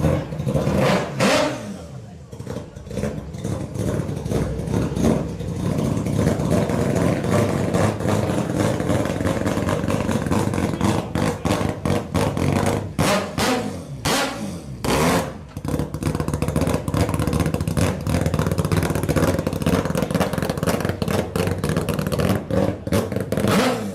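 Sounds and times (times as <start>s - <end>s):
rotary engine revving: 0.0s - 23.9s.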